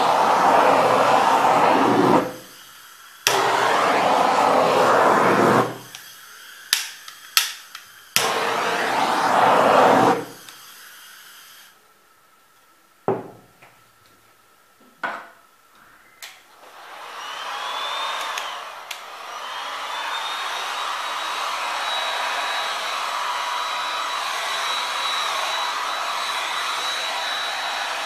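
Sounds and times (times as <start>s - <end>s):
hair dryer blowing: 0.0s - 11.8s, 16.5s - 28.0s.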